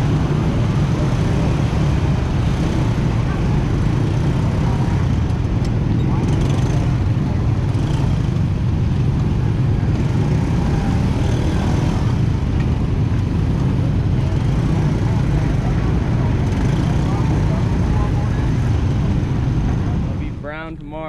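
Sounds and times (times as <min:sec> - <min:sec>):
vehicle low rumble: 0:00.0 - 0:21.0.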